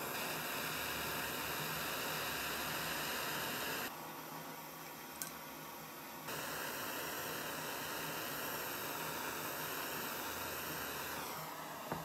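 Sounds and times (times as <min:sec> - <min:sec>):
gas torch hissing: 0:00.0 - 0:03.9, 0:06.3 - 0:12.0.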